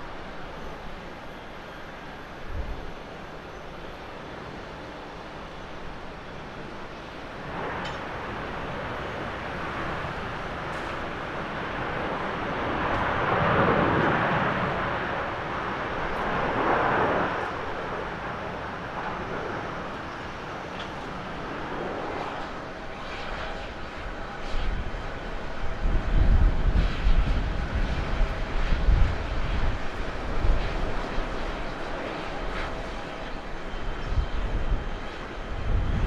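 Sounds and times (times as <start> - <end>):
jet engines rushing: 0.0 - 36.0.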